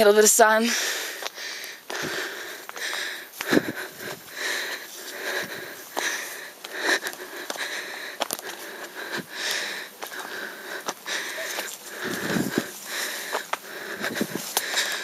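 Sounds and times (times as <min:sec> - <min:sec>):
footsteps on a path: 0:00.6 - 0:15.0
person breathing heavily: 0:00.6 - 0:15.0.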